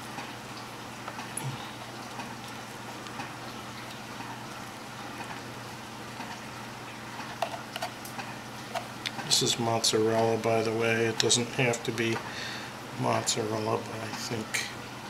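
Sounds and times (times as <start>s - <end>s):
background hiss with low hum: 0.0s - 15.0s.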